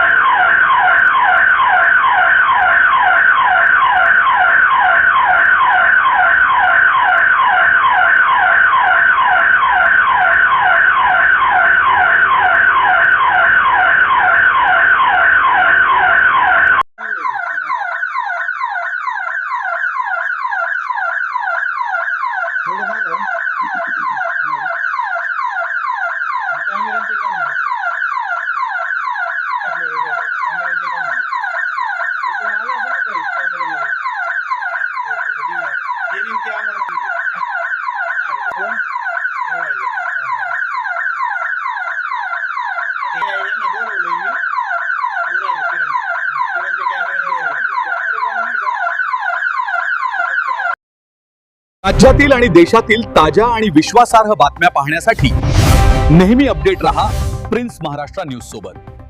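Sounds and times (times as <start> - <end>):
electronic alarm siren sweeping: 0.0 - 50.8, 51.8 - 59.0.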